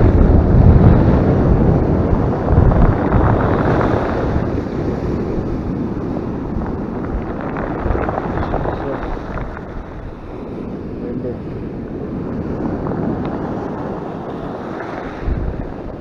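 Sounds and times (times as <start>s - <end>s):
rough surf breaking ashore: 0.0s - 16.0s
wind buffeting microphone: 0.0s - 16.0s.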